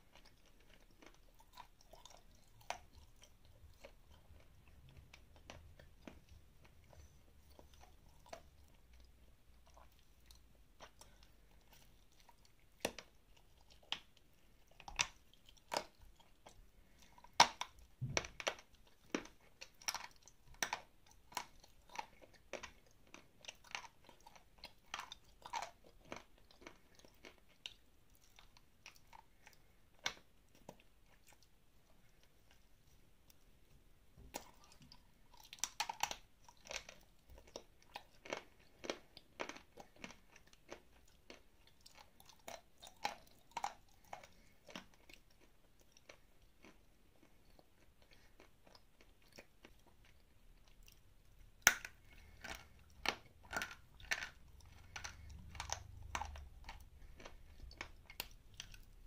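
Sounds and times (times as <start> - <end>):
crunching and chewing dry clay: 0.0 - 59.0.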